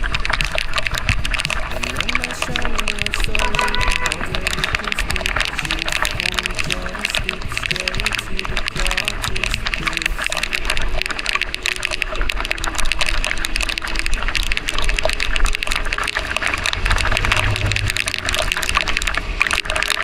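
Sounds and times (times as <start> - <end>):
motorcycle low rumble: 0.0 - 20.0
raindrops hitting microphone: 0.0 - 20.0
wet road noise: 0.0 - 20.0.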